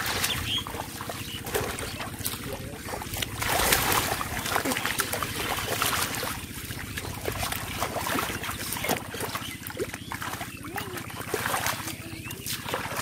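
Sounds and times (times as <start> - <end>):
hands splashing in muddy water: 0.0 - 13.0
steady low rumble: 0.0 - 13.0.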